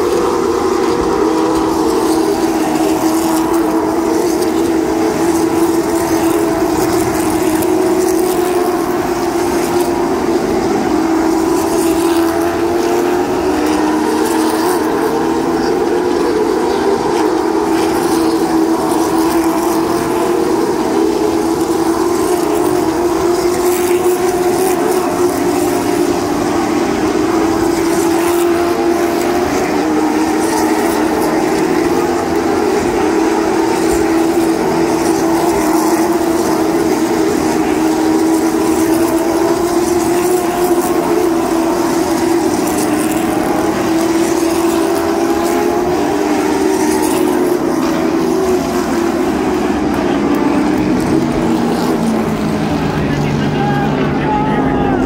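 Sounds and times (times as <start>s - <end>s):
racing car engines droning: 0.0s - 55.0s.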